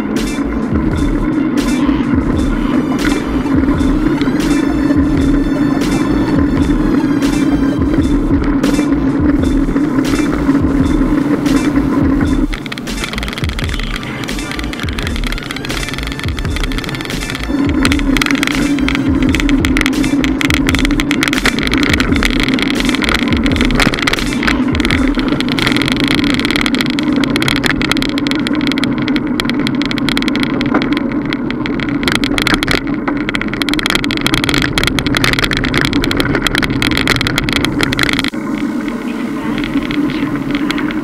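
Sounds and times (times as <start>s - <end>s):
bicycle riding hum: 0.0s - 41.0s
small clicks and rattles: 2.0s - 41.0s.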